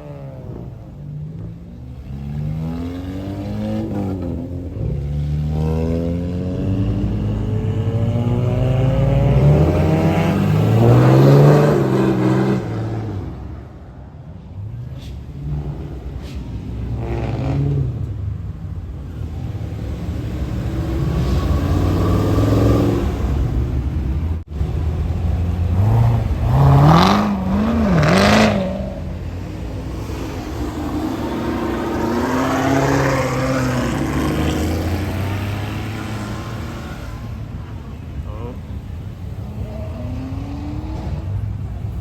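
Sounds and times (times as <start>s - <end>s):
car engine revving: 0.0s - 13.5s, 14.8s - 42.0s
car engines accelerating: 0.0s - 42.0s.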